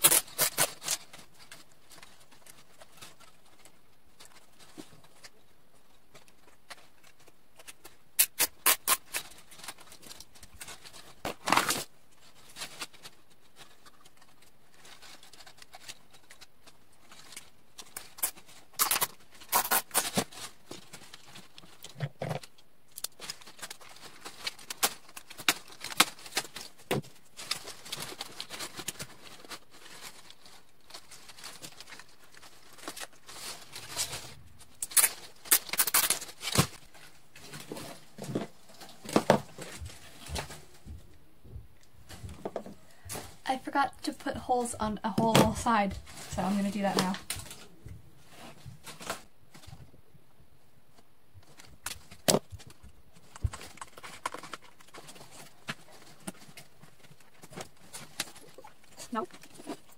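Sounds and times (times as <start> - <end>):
chicken wire crinkling and rattling: 0.0 - 41.2, 51.4 - 59.9.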